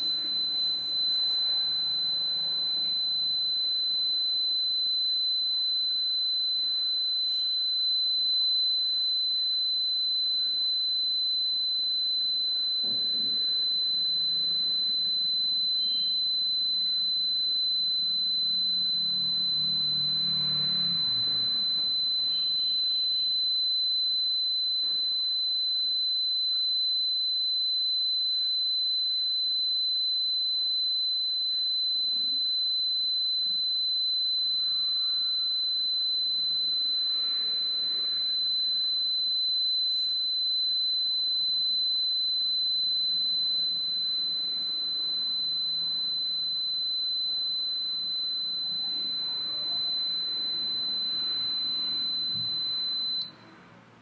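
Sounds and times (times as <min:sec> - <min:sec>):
buzzer high-pitched tone: 0:00.0 - 0:54.0.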